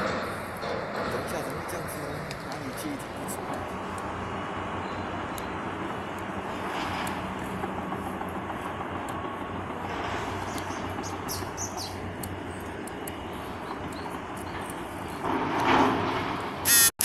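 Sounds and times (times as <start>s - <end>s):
low mechanical rumble: 0.0s - 16.8s.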